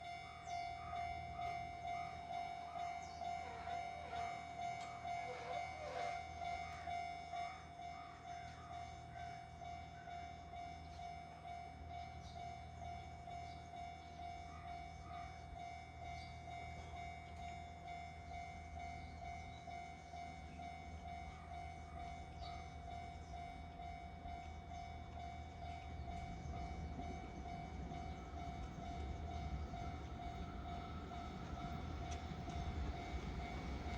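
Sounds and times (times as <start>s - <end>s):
level crossing alarm bell: 0.0s - 33.9s
train rumble: 0.0s - 33.9s.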